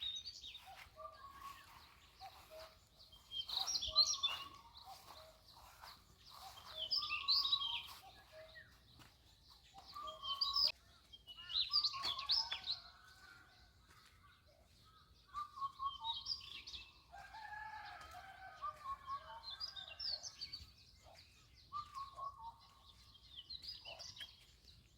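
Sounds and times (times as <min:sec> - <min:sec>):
birds singing and chirping: 0:00.0 - 0:24.9.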